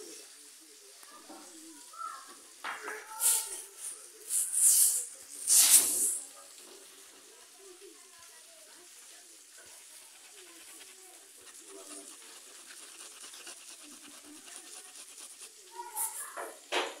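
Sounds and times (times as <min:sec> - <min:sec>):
paintbrush scrubbing on cloth: 0:02.9 - 0:16.7.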